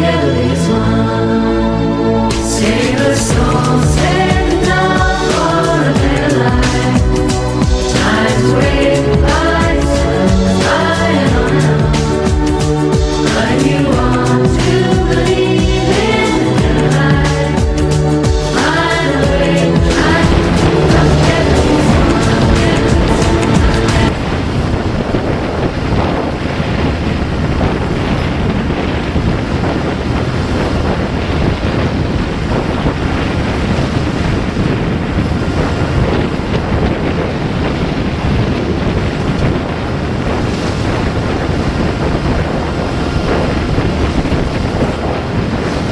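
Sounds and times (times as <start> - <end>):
water rushing along hull: 0.0 - 45.9
wind buffeting microphone: 0.0 - 45.9.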